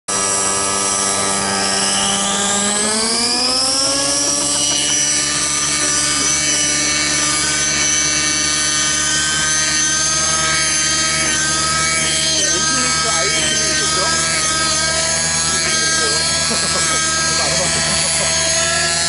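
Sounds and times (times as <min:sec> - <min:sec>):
model helicopter engine running: 0:00.1 - 0:19.0.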